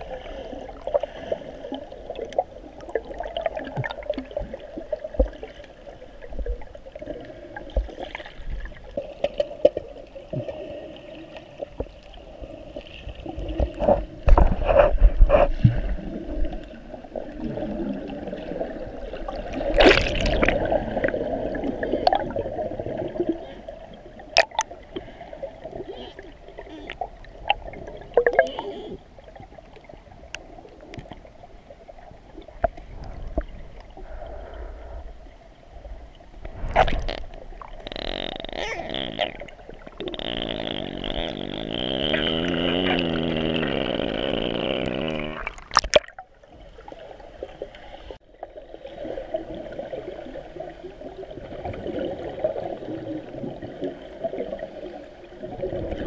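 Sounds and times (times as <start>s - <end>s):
water gurgling and sloshing: 0.0s - 56.0s.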